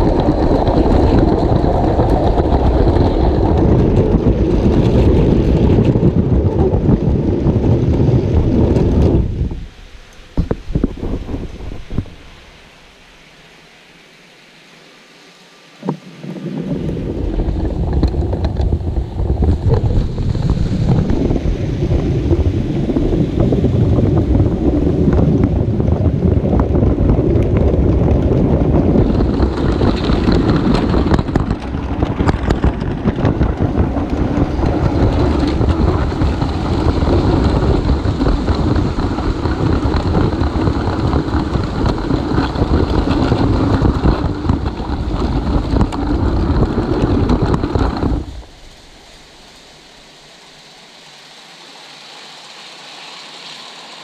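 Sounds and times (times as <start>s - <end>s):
toy train rumbling and rattling: 0.0s - 12.4s, 16.8s - 48.9s.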